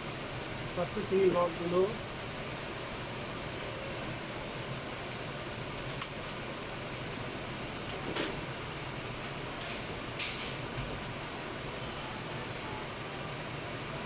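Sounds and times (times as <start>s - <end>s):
air conditioning hum: 0.0s - 14.0s.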